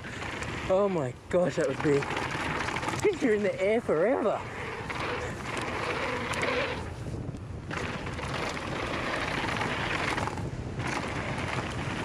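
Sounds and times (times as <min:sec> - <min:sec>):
tyres rumbling on dirt: 0:00.0 - 0:07.0, 0:07.6 - 0:12.0
wind rushing over microphone: 0:00.0 - 0:12.0.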